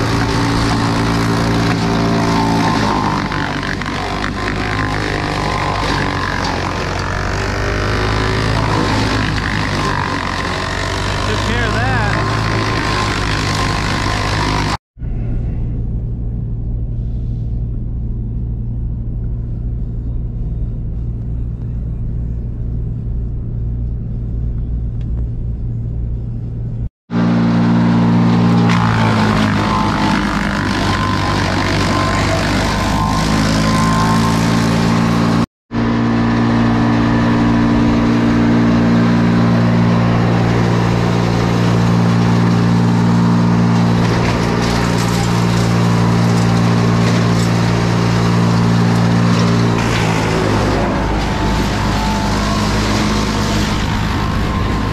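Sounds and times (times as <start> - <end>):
wood chipper engine running: 0.0 - 16.8, 27.1 - 54.9
truck engine and road rumble: 0.0 - 54.9.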